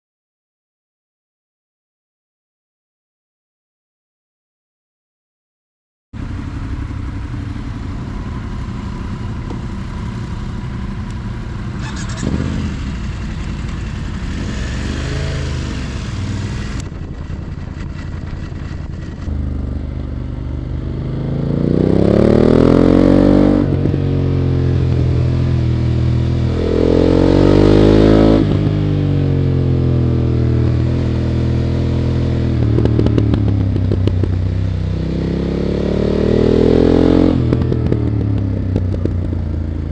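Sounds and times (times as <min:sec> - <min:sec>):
motorcycle engine revving: 0:06.2 - 0:39.9.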